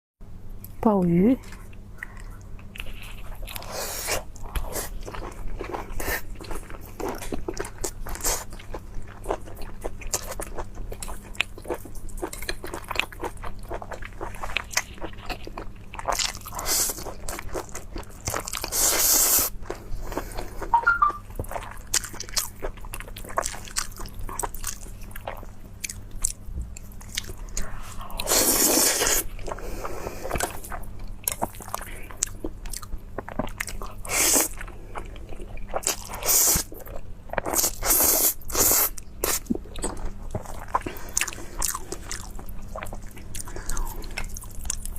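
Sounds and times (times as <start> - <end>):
wet chewing and mouth clicks: 1.4 - 29.6, 30.2 - 44.9.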